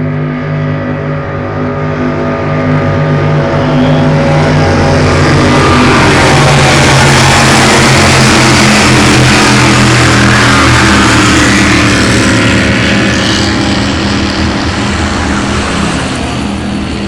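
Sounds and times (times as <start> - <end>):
racing boat engines running: 0.0 - 17.0
water wash noise: 0.1 - 17.0.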